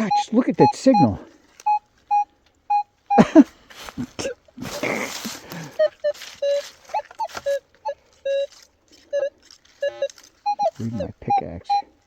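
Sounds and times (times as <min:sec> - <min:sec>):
metal detector beeping: 0:00.0 - 0:03.4, 0:04.0 - 0:12.0.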